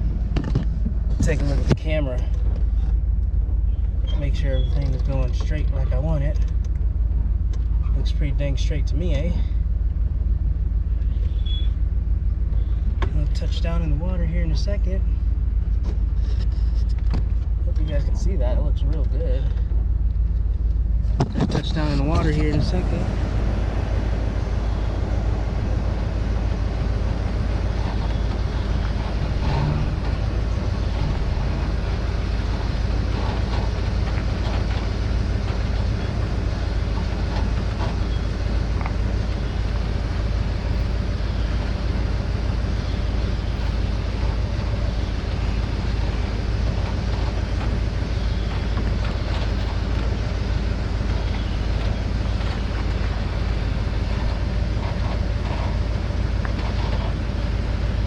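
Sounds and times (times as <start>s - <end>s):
truck engine low rumble: 0.0s - 58.0s.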